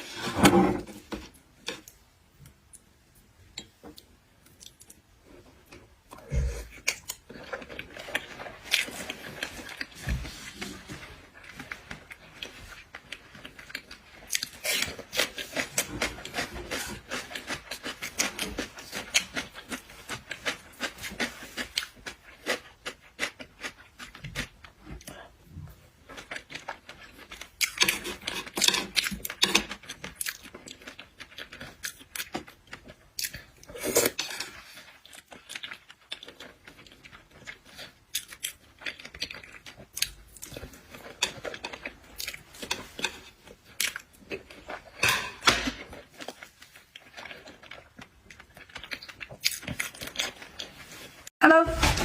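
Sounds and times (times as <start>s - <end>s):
person chewing with crunches: 0.0s - 51.3s.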